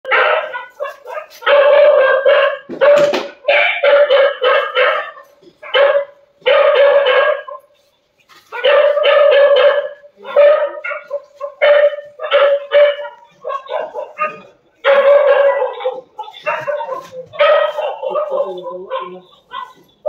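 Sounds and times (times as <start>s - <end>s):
dog barking: 0.0s - 20.0s.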